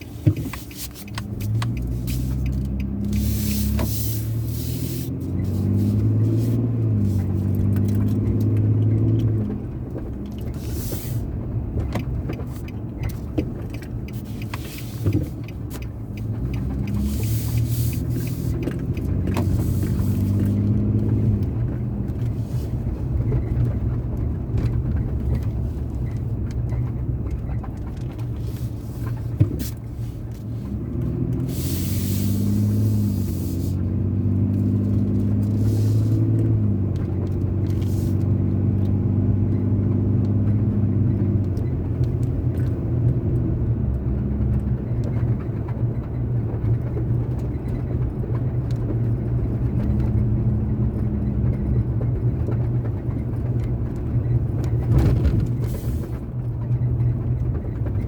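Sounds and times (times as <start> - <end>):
engine hum: 0.0 - 58.0
road noise: 0.0 - 58.0.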